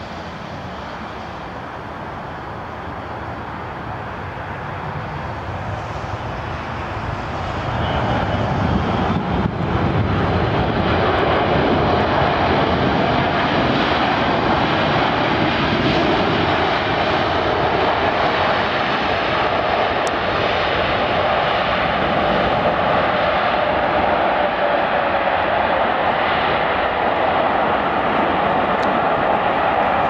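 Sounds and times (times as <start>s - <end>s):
jet engines reverse thrust: 0.0s - 30.0s.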